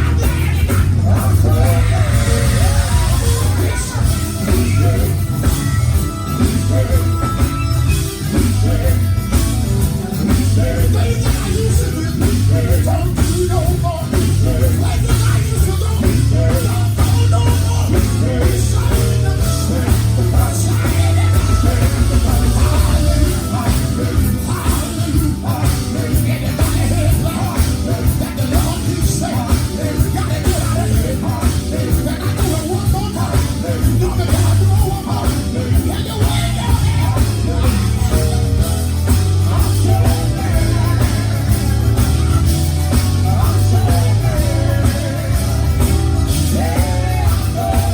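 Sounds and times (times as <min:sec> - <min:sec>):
band with bass and drums: 0:00.0 - 0:47.9
group singing: 0:00.0 - 0:47.9.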